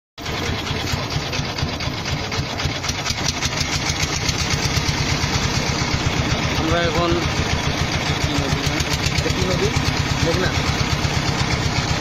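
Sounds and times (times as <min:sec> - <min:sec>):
boat engine running: 0:00.2 - 0:12.0.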